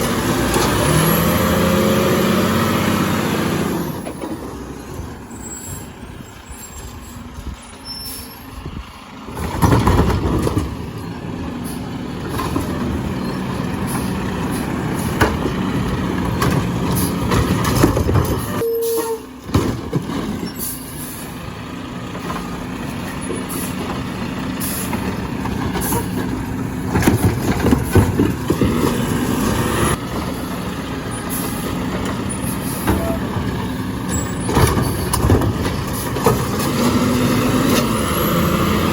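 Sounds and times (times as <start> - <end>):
garbage truck running: 0.0 - 38.9.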